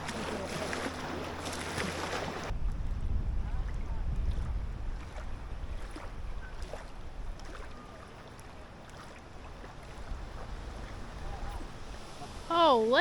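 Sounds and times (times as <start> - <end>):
wind buffeting microphone: 0.0 - 8.6, 9.2 - 13.0.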